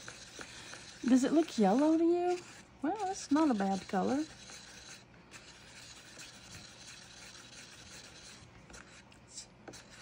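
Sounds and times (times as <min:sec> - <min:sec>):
wooden stick scraping in cup: 0:00.0 - 0:10.0.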